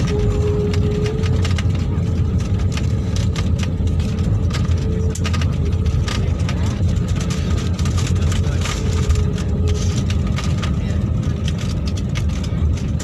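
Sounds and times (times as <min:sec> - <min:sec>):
airliner engines and wheels rumbling: 0:00.0 - 0:13.0.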